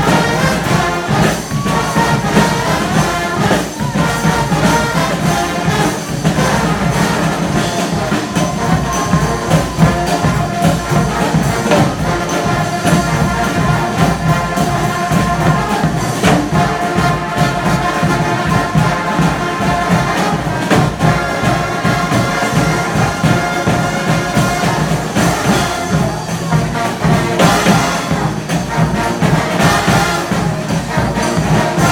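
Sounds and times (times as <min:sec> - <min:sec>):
brass horns playing held notes: 0:00.0 - 0:31.9
percussion beat: 0:00.0 - 0:31.9.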